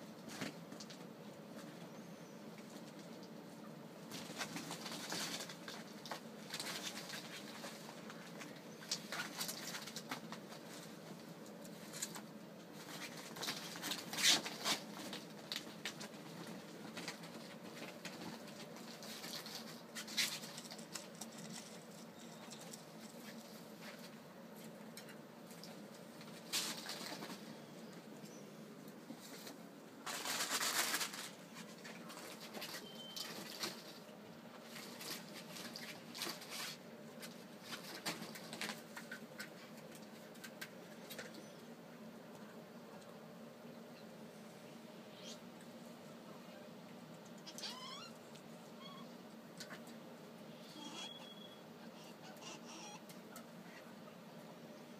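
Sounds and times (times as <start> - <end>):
ferrets rustling: 0.2 - 54.9.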